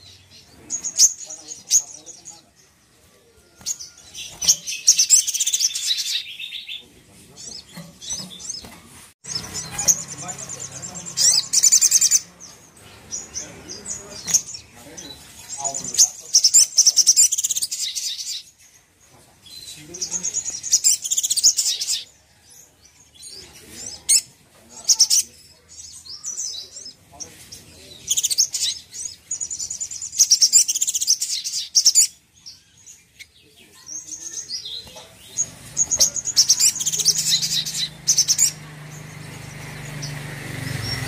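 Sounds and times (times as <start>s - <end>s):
bird chirps: 0.0s - 41.0s
bird singing: 0.0s - 41.0s.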